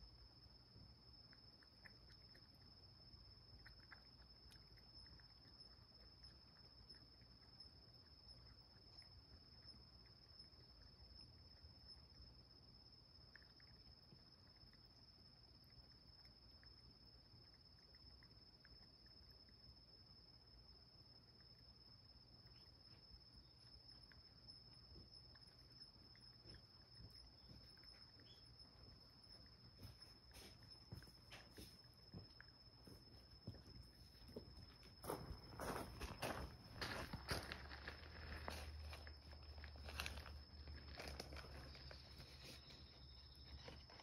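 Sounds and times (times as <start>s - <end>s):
high-pitched insect trill: 1.5s - 44.0s.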